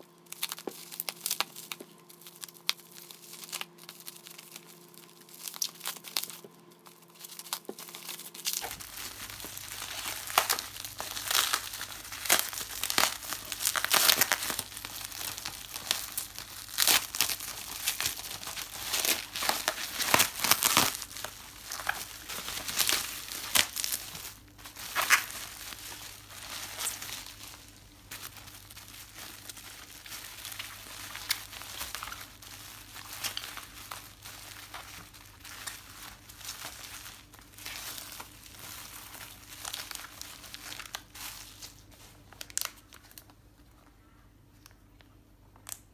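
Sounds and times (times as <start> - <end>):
packaging crinkling and rustling: 0.0 - 44.0
packaging tearing: 0.3 - 43.3.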